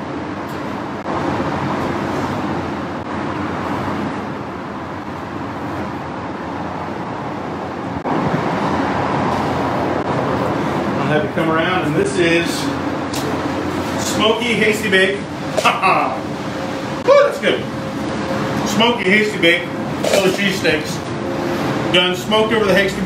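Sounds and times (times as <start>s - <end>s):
road construction noise: 0.0s - 23.0s
traffic rumble: 0.0s - 23.0s.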